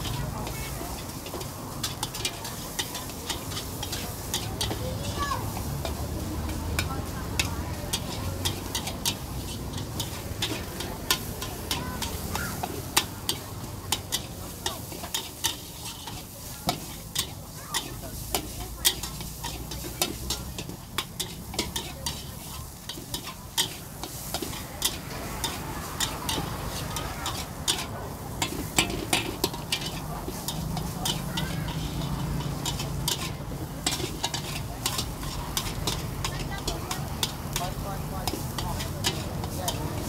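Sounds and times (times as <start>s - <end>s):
ladle clanking against wok: 0.0s - 40.0s
rice sizzling: 0.0s - 40.0s.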